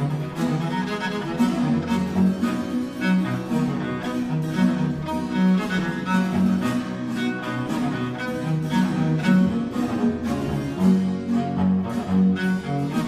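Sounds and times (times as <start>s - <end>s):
cello and orchestral strings: 0.0s - 13.0s.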